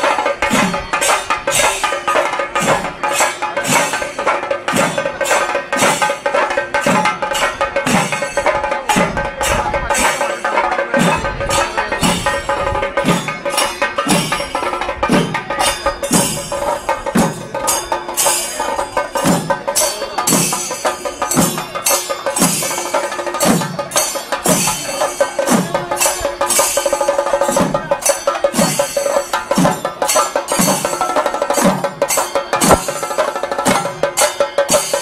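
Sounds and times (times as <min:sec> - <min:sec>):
deep drum beat falling in pitch: 0:00.0 - 0:28.8
chenda drums fast stick strokes: 0:00.0 - 0:35.0.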